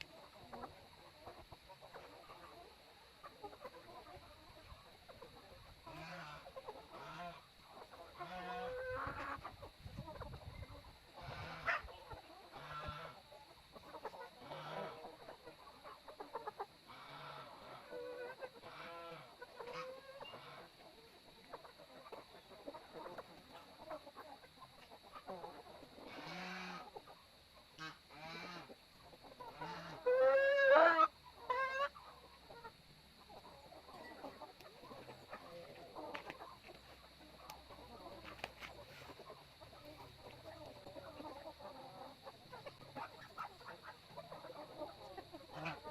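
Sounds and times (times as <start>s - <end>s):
chickens clucking: 0.0s - 45.9s
drawn-out chicken call: 0.0s - 45.9s.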